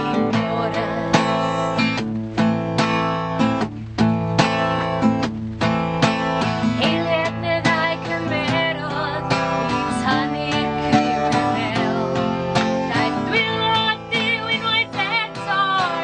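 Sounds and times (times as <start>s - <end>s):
woman singing folk song: 0.0s - 5.1s, 5.7s - 16.0s
acoustic guitar strumming: 0.0s - 16.0s.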